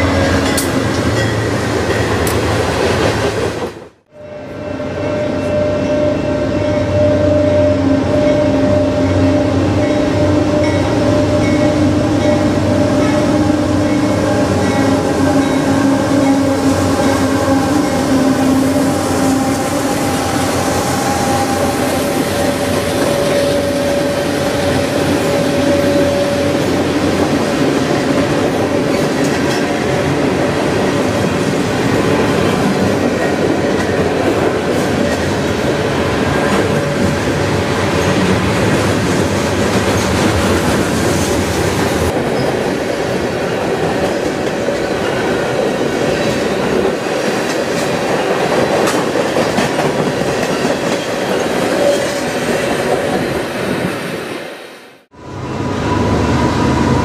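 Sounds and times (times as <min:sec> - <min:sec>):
diesel locomotive engines droning: 0:00.0 - 0:57.0
train cars rumbling: 0:00.0 - 0:57.0.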